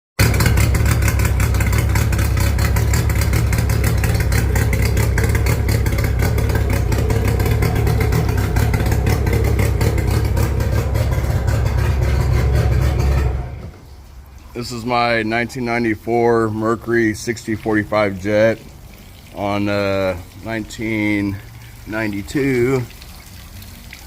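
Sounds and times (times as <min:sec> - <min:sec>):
outboard engine running: 0:00.2 - 0:23.0.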